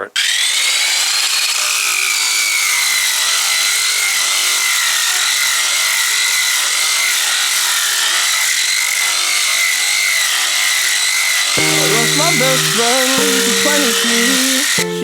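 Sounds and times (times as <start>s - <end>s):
sander motor whining: 0.0s - 15.0s
abrasive disc rasping on wood: 0.2s - 14.8s.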